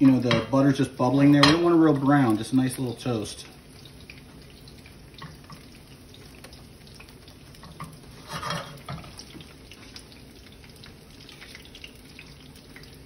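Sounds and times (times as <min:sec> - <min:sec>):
butter sizzling in a skillet: 0:00.0 - 0:13.0
oysters frying in hot oil: 0:00.0 - 0:13.0.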